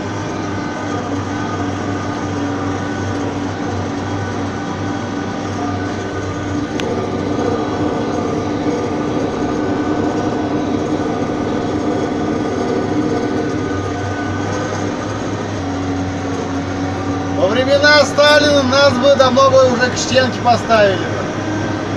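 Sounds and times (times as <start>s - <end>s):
tractor engine running: 0.0s - 21.9s.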